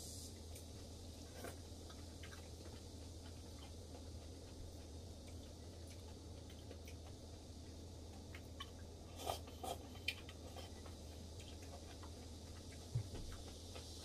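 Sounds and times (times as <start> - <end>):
low steady hum: 0.0 - 14.0
person chewing: 0.5 - 14.0.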